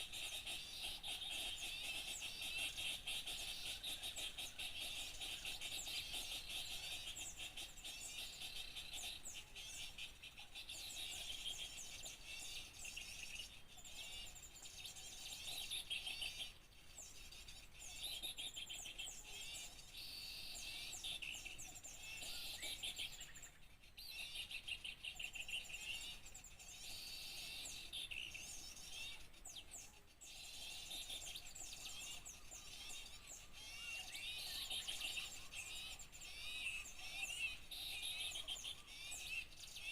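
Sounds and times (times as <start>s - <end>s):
small songbirds chirping and twittering: 0.0s - 39.9s.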